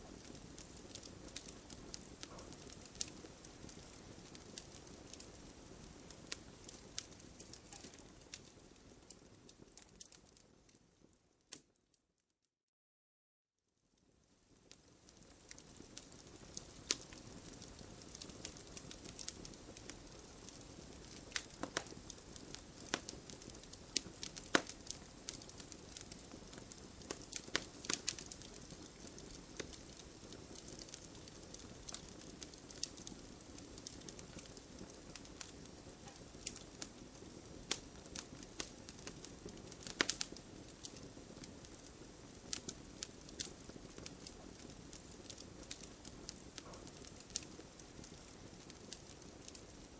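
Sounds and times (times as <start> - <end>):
burning logs hissing: 0.0 - 8.4, 15.2 - 49.9
wood fire crackling: 0.0 - 11.8, 14.0 - 49.9.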